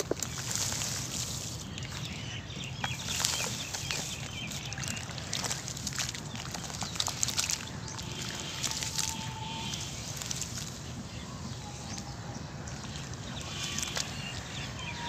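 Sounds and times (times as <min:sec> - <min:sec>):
hands mixing wet cement paste: 0:00.0 - 0:15.0
water sloshing: 0:00.0 - 0:15.0.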